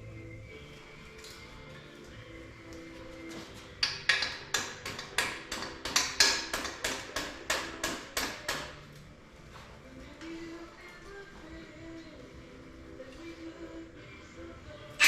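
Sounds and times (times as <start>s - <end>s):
faint radio music: 0.0s - 15.0s.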